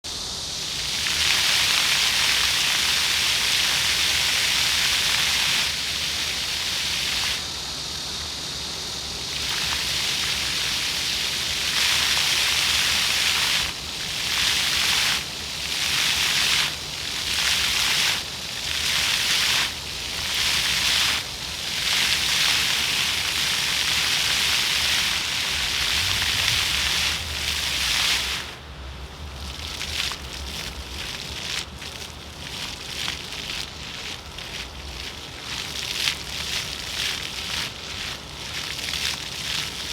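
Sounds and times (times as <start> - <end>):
fountain jets splashing on pavement: 0.5 - 39.9.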